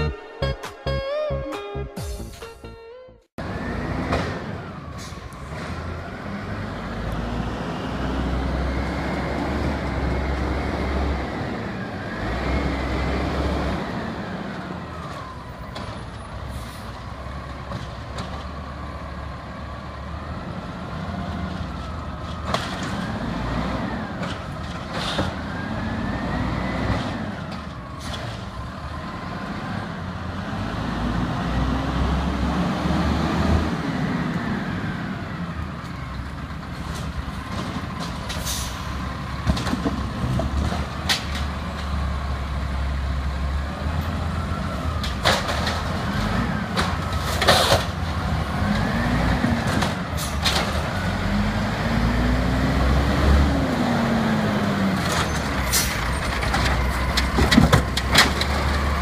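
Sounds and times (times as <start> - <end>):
garbage truck diesel engine: 3.3 - 59.0.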